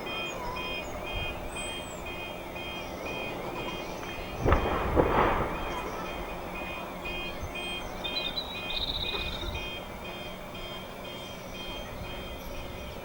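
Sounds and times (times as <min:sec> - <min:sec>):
warning siren beeps and warble: 0:00.0 - 0:13.0.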